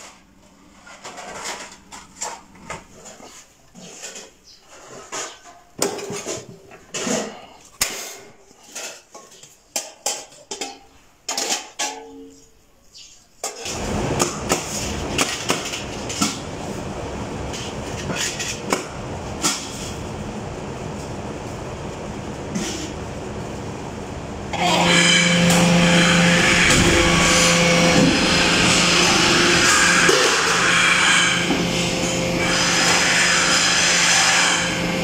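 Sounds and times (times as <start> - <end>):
steady workshop noise: 0.0 - 35.0.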